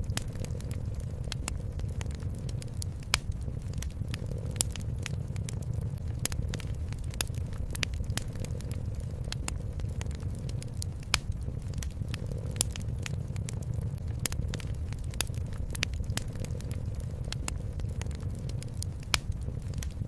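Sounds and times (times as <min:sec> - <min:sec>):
cat purring: 0:00.0 - 0:20.0
wood fire crackling: 0:00.0 - 0:20.0.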